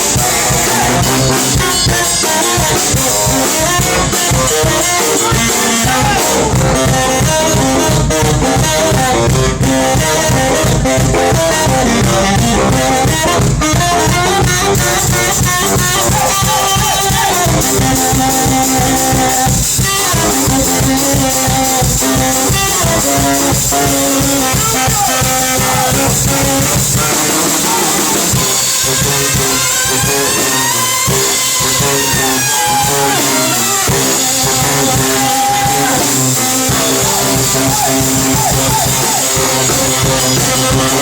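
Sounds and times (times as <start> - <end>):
brass horns playing melody: 0.0 - 41.0
drum and bass beat: 0.0 - 41.0.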